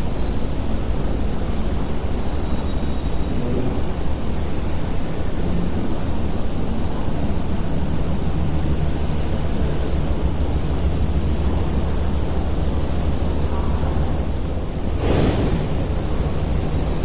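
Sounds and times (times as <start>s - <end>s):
ferry engine rumble: 0.0s - 17.0s
wind: 0.0s - 17.0s.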